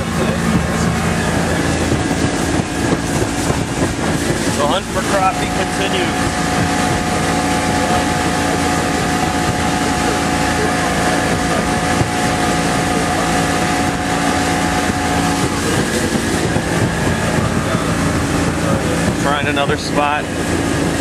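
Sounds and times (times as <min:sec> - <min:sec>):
boat motor running: 0:00.0 - 0:21.0
wind buffeting microphone: 0:00.0 - 0:21.0.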